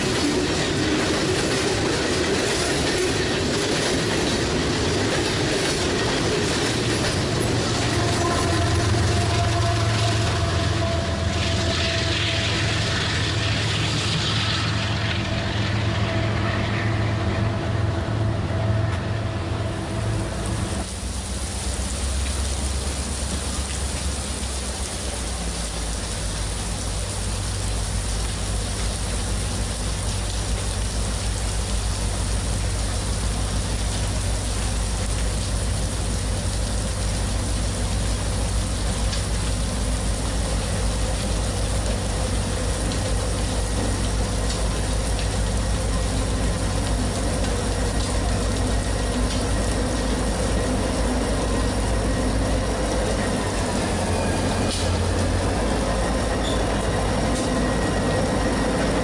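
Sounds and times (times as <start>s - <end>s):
rain falling: 0.0s - 18.2s, 18.8s - 59.0s
diesel locomotive engine rumble: 0.0s - 59.0s.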